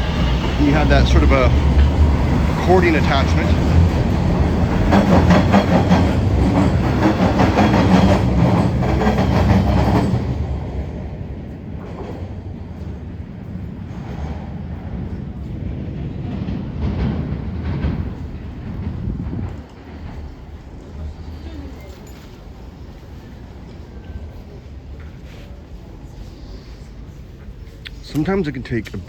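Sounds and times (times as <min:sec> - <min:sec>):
station background noise: 0:00.0 - 0:29.0
subway train wheels clattering: 0:00.0 - 0:29.0.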